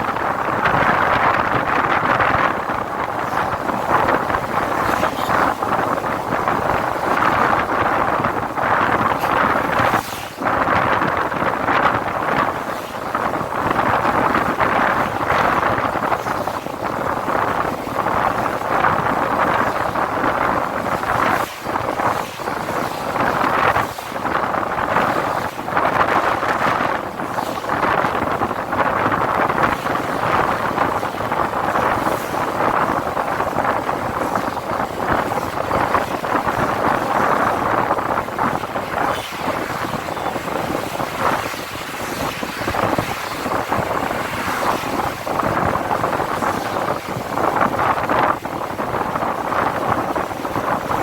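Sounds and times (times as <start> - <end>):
road traffic: 0.0 - 51.0
wind on microphone: 0.0 - 51.0.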